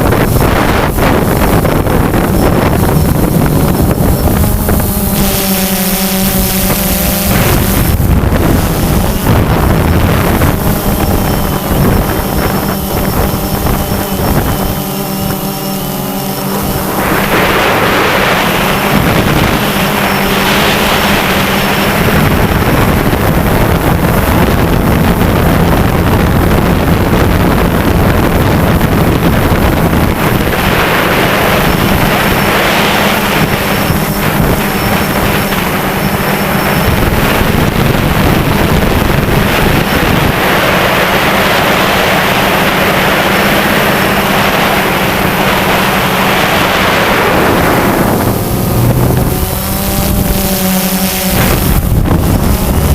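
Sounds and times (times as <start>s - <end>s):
drone propellers humming: 0.0s - 52.9s
wind noise on microphone: 0.0s - 52.9s.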